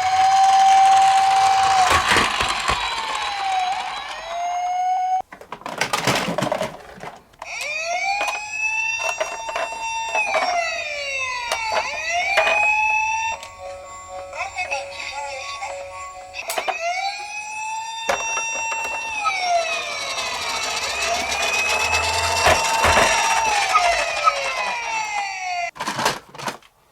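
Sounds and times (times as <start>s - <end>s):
toy electronic siren wailing: 0.0s - 5.2s, 7.4s - 25.7s.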